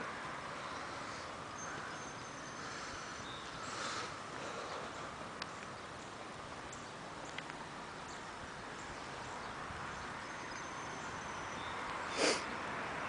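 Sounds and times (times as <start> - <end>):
steady ambient hiss: 0.0 - 13.0.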